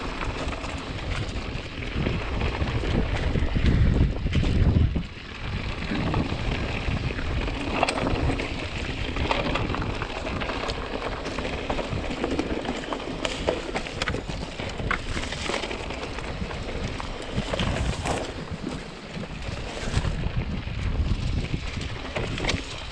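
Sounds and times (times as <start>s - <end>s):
bike clicking and rattling: 0.0s - 22.9s
tyres crunching over dirt and stones: 0.0s - 22.9s.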